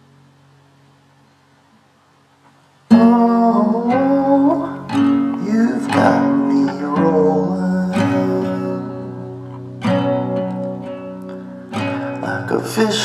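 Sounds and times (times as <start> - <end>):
faint steady hum: 0.0 - 13.0
guitar strumming: 2.5 - 13.0.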